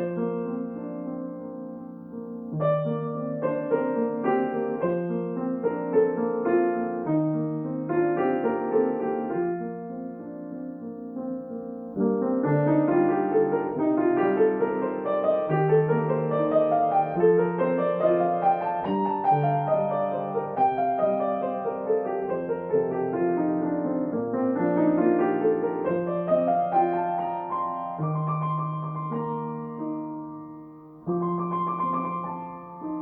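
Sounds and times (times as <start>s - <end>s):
solo piano piece: 0.0s - 33.0s.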